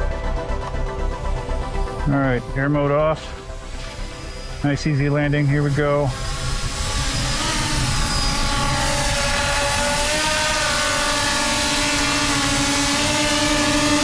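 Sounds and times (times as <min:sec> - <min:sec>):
quadcopter propellers whirring: 0:00.0 - 0:14.0.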